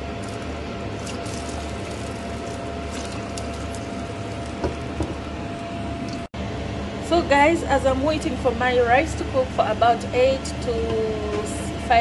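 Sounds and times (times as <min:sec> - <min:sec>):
electric hob humming with whine: 0:00.0 - 0:12.0.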